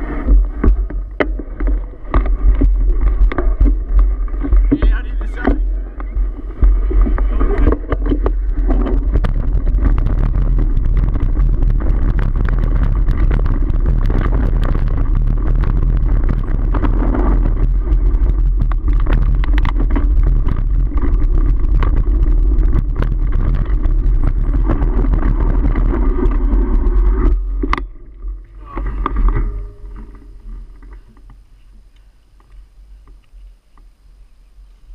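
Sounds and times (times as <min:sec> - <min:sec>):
wind buffeting microphone: 0:00.0 - 0:31.2
bike clicking and rattling: 0:00.0 - 0:34.0
bike tyres rolling over dirt: 0:00.0 - 0:34.9.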